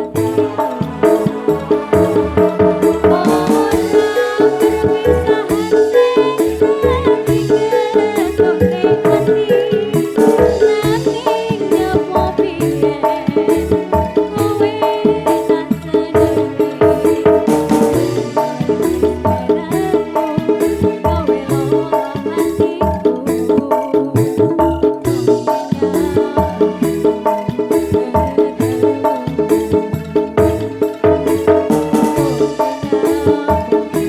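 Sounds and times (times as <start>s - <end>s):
live band music over loudspeakers: 0.0s - 34.0s.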